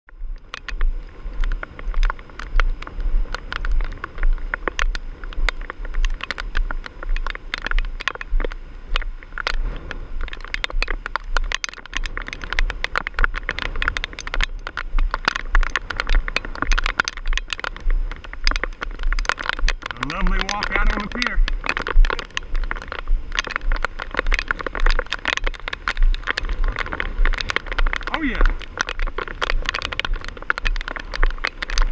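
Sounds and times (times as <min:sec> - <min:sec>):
rain ticking on phone: 0:00.1 - 0:31.9
storm wind buffeting microphone: 0:00.1 - 0:31.9.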